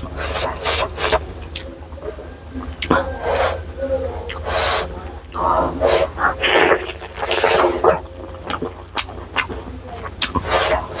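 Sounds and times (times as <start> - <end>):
wet mouth clicks: 0.0 - 2.0, 2.6 - 11.0
person chewing and slurping: 0.0 - 11.0
steady low hum: 0.0 - 11.0.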